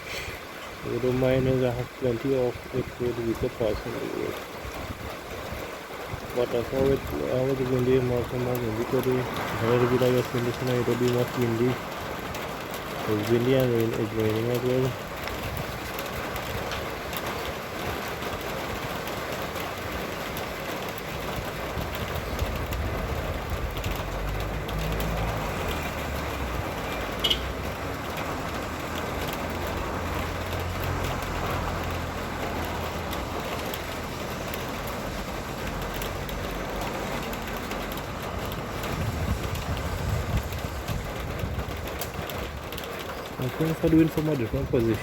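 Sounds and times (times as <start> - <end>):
engines rumbling low: 0.0 - 45.0
rain hissing: 0.0 - 45.0
vehicles passing on wet road: 0.0 - 45.0
wind: 0.0 - 45.0.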